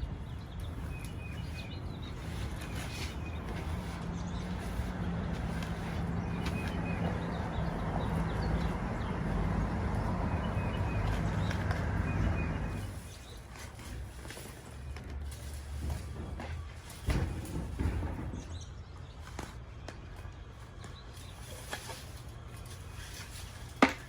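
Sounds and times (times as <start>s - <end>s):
birds chirping: 0.0s - 14.8s, 15.9s - 24.0s
engine rumble: 0.0s - 24.0s.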